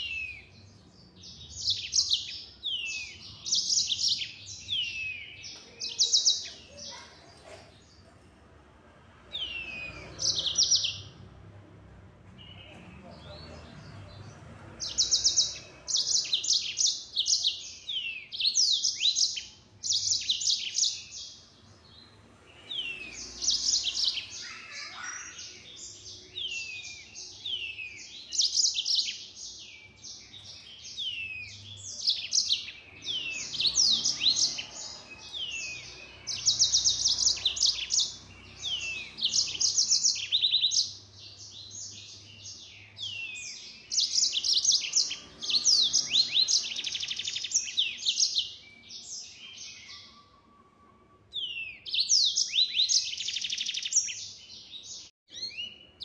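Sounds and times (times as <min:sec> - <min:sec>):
canary singing: 0:00.0 - 0:08.0, 0:09.2 - 0:11.6, 0:12.4 - 0:56.0.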